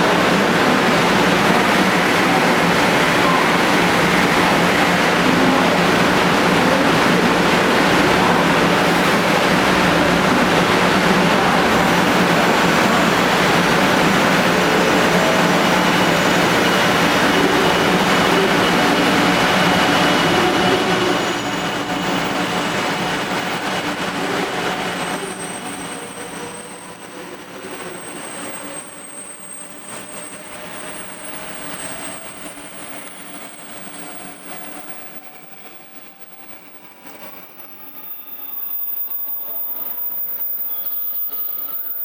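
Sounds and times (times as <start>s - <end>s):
train rushing noise: 0.0s - 42.0s.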